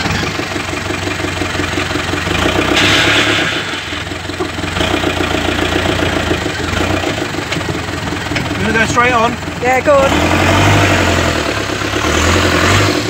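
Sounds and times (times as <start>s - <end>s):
vehicle engine throbbing: 0.0s - 13.0s.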